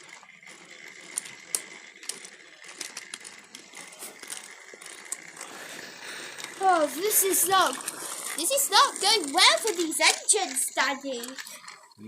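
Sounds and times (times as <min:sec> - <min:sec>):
clicks and plastic rattles: 0:00.0 - 0:12.0
toy train motor whine: 0:00.0 - 0:12.0.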